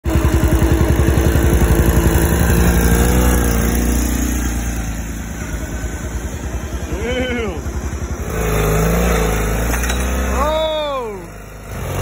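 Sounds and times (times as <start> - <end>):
riding lawnmower engine running: 0.0 - 12.0.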